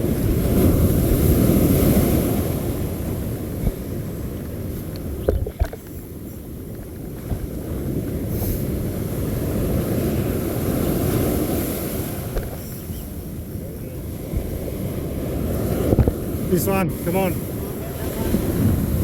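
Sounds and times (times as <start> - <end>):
surf washing up beach: 0.0 - 19.0
wind rumbling on microphone: 0.0 - 19.0.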